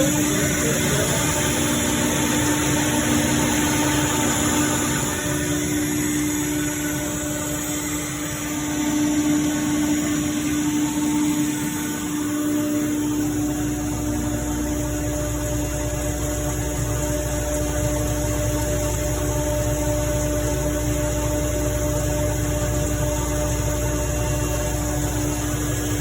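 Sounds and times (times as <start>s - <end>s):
air compressor drone: 0.0s - 26.0s.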